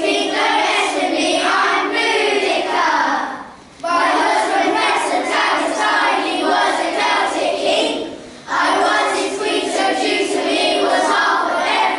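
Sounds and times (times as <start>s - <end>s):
children singing in unison: 0.0s - 11.9s.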